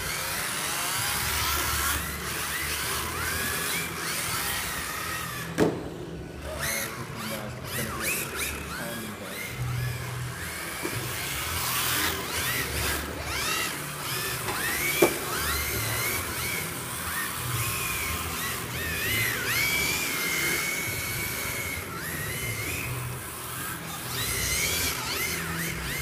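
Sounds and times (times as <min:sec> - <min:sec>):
rc car electric motors whining: 0:00.0 - 0:26.0.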